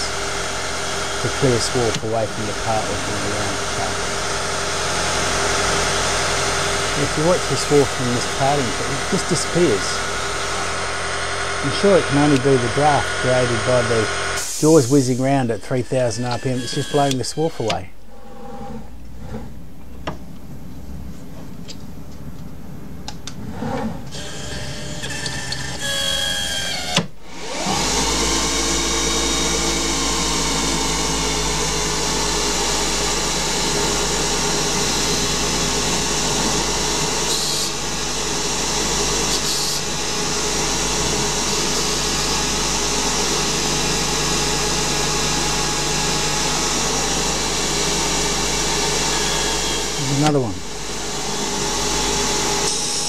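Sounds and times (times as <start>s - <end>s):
lathe motor tones: 0.0s - 15.1s, 15.8s - 17.8s, 24.1s - 53.0s
lathe spindle running: 0.0s - 15.1s, 16.0s - 17.8s, 27.3s - 53.0s
turning tool cutting: 0.0s - 15.3s, 15.9s - 17.8s, 24.2s - 53.0s.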